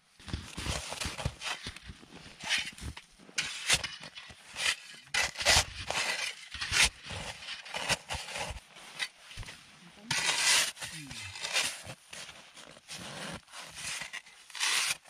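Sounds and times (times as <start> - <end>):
snow shovel scraping snow: 0.2 - 15.0.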